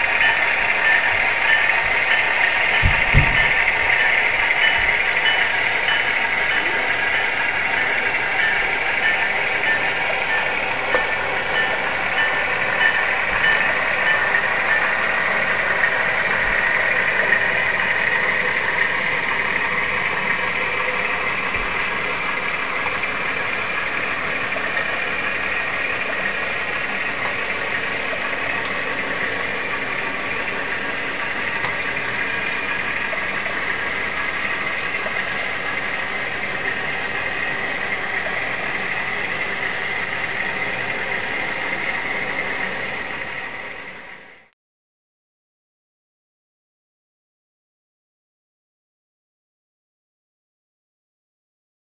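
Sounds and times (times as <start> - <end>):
model train engine: 0.0 - 44.5
model train wheels on track: 0.0 - 44.5.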